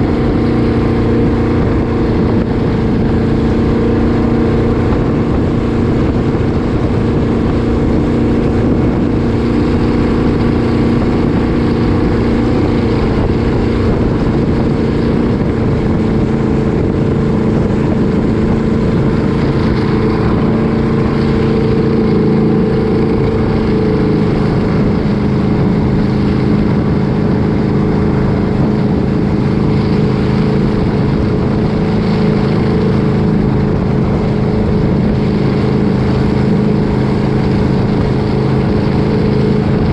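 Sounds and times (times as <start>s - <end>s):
engine droning loudly: 0.0s - 39.9s.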